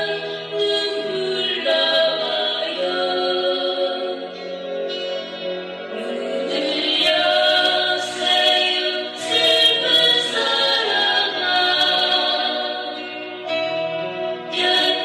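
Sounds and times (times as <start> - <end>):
woman singing slow song: 0.0 - 4.4, 5.9 - 13.1, 14.5 - 15.0
backing music: 0.0 - 15.0.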